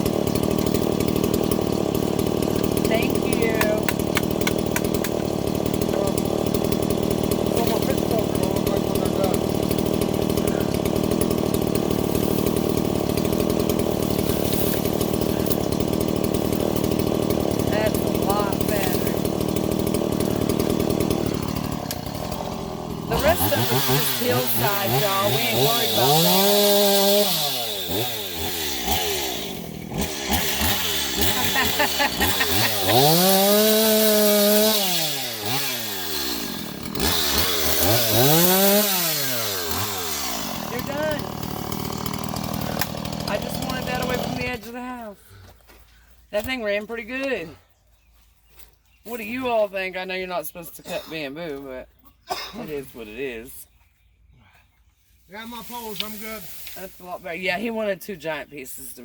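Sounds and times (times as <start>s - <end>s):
chainsaw running: 0.0s - 45.8s, 55.3s - 59.0s.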